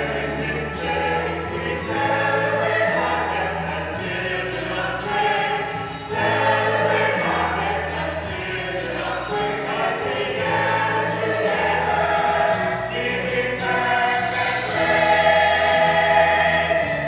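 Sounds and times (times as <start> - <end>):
choir singing a gospel hymn: 0.0 - 17.0.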